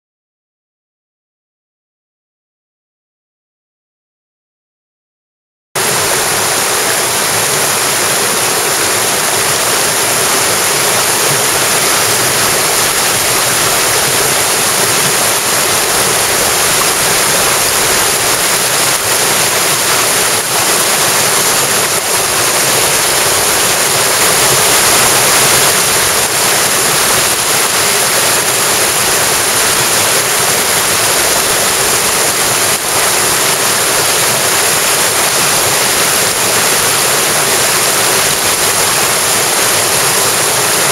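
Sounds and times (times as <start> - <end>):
stream rushing: 5.8 - 40.9.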